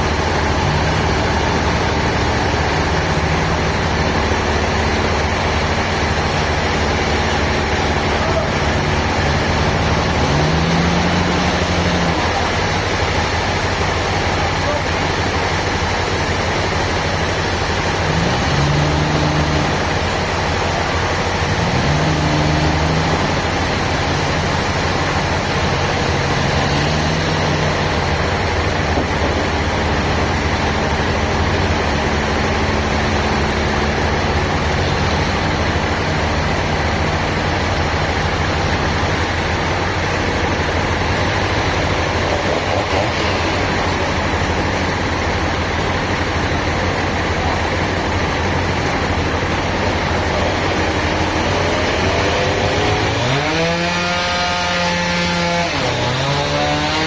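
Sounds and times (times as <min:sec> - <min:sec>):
heavy machinery engine running: 0:00.0 - 0:57.0.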